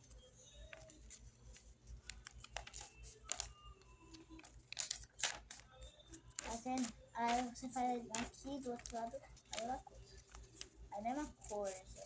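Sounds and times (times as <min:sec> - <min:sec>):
paper creasing clicks: 0:00.0 - 0:12.0
paper rustling: 0:00.0 - 0:12.0.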